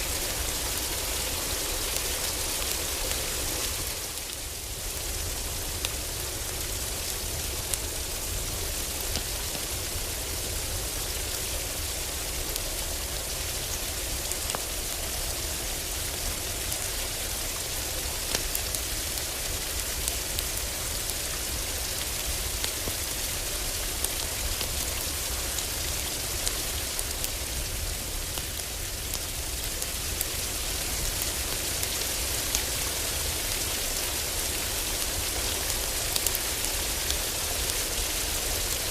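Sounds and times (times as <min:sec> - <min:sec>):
heavy rain on a roof: 0:00.0 - 0:38.9
wood fire crackling: 0:00.0 - 0:38.9.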